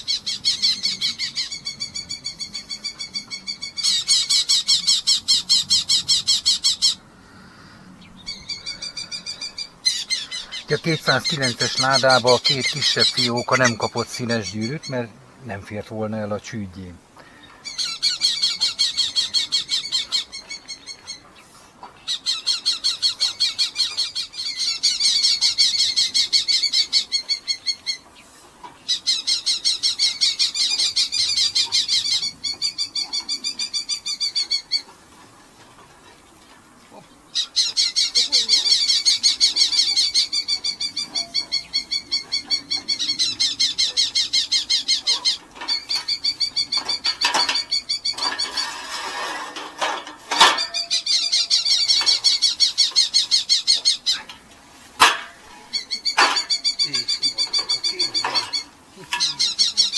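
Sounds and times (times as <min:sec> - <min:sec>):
falcons calling shrilly: 0:00.0 - 0:15.2, 0:17.1 - 0:35.1, 0:37.2 - 0:59.9.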